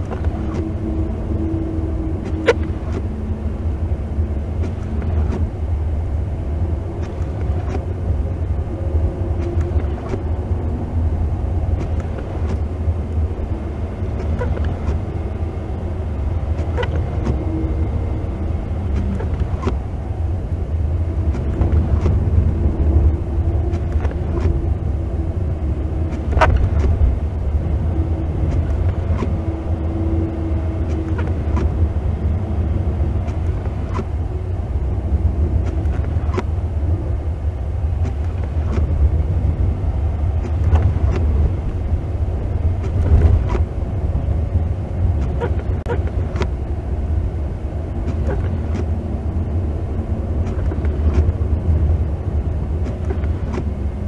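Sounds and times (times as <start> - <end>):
tyres and engine rumbling: 0.0 - 54.0.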